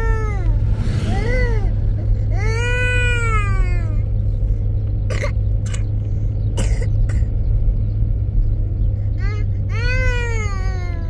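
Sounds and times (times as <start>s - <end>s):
car driving rumble inside cabin: 0.0s - 11.0s.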